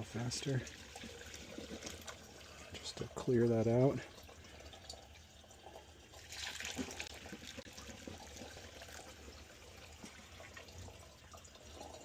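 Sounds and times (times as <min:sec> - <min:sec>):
water trickling through drain pipe: 0:00.0 - 0:12.0.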